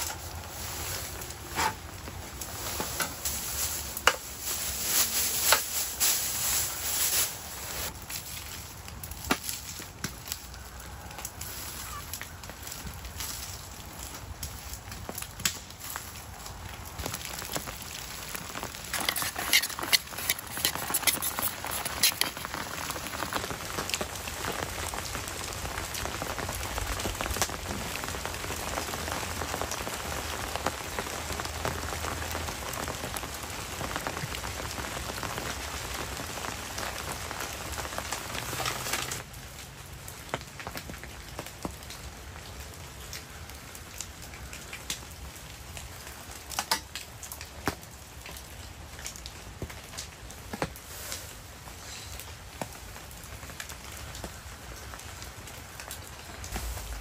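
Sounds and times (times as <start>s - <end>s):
close raindrops hitting: 0.0s - 57.0s
rain pattering: 0.0s - 57.0s.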